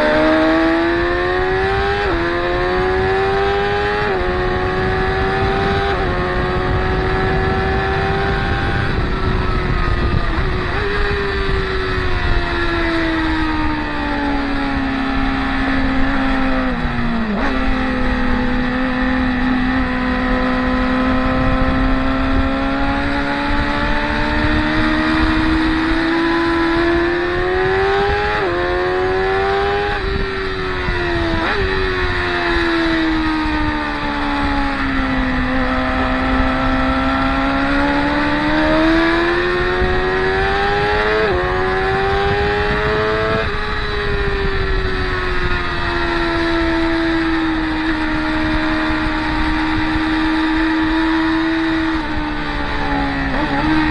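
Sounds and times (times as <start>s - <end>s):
motorcycle engines at high revs: 0.0s - 53.9s.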